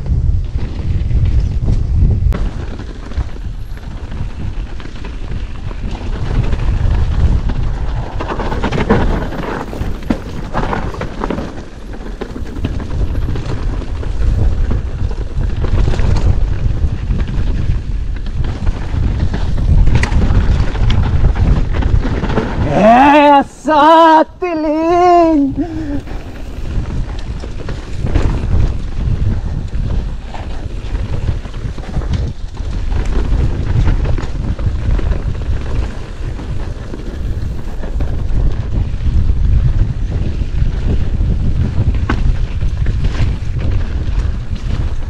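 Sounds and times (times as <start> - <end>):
bike rolling over dirt trail: 0.0 - 23.6, 24.8 - 45.0
wind buffeting microphone: 0.0 - 45.0.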